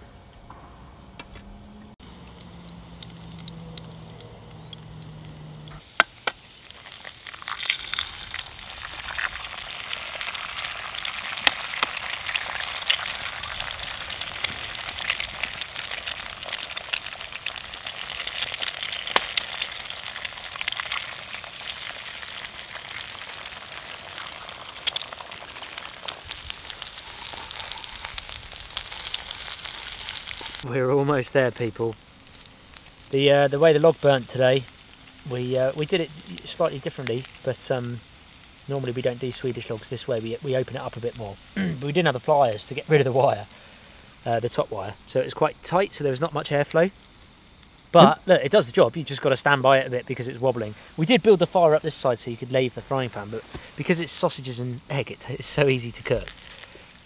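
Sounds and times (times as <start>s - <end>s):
food sizzling in a frying pan: 2.0s - 45.5s, 46.7s - 57.0s.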